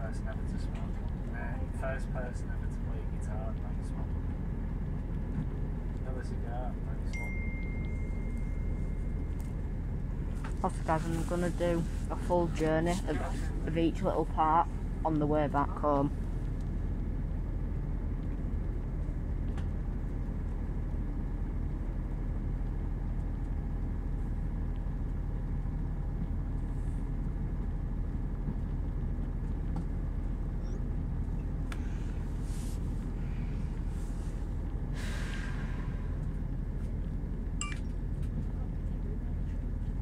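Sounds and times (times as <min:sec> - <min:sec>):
train engine rumble: 0:00.0 - 0:40.0.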